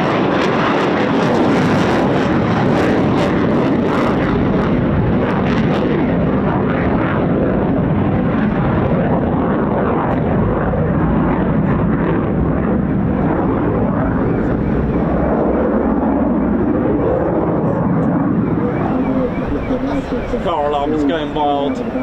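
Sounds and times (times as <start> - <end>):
jet engines in flight: 0.0 - 22.0.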